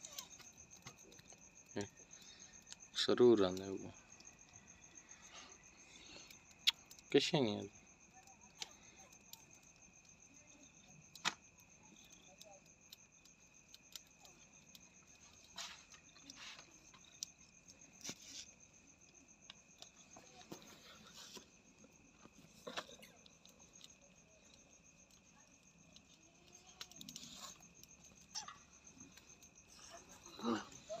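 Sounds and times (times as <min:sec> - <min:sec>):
high-pitched insect trill: 0:00.0 - 0:31.0.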